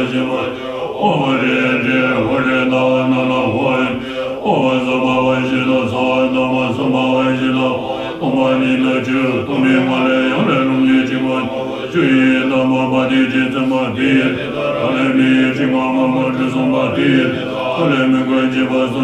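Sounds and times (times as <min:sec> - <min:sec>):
monks chanting in unison: 0:00.0 - 0:19.0.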